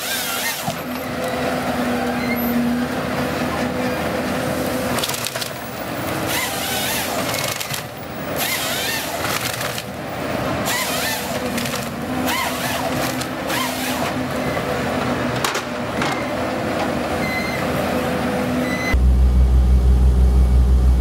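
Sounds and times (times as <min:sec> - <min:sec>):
machine engine and hydraulics: 0:00.0 - 0:21.0.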